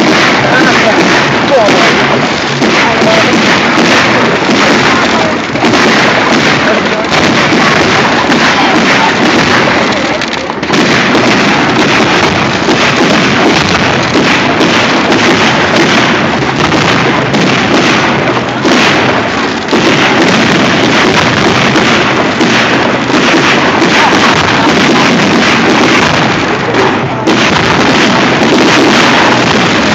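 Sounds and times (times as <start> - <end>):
fireworks bursting and crackling: 0.0 - 29.9.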